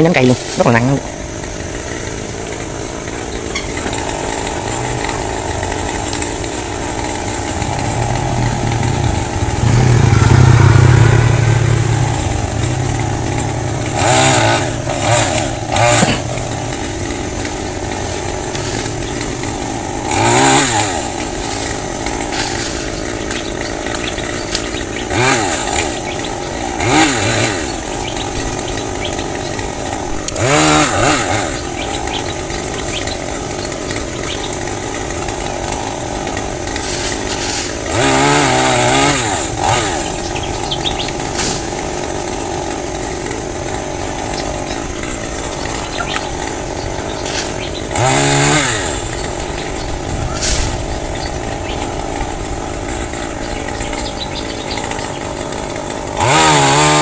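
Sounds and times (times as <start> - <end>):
chainsaw cutting and revving: 0.0 - 57.0.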